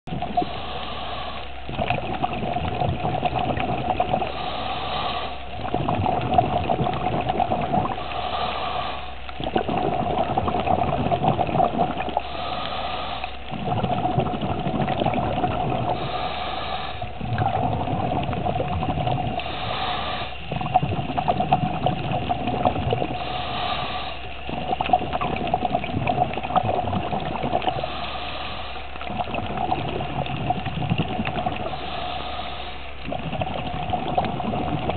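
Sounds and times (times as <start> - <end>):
exhaled bubbles rushing: 0.1 - 0.8, 1.6 - 8.5, 9.2 - 12.6, 13.4 - 34.9
steady hum: 0.1 - 34.9
diver inhaling through regulator: 0.2 - 34.9.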